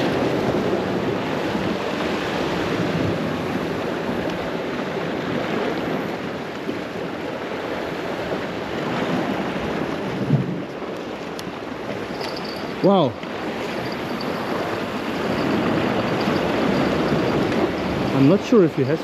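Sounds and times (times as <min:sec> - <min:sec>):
sea waves breaking on rocks: 0:00.0 - 0:19.0
wind buffeting microphone: 0:00.0 - 0:19.0.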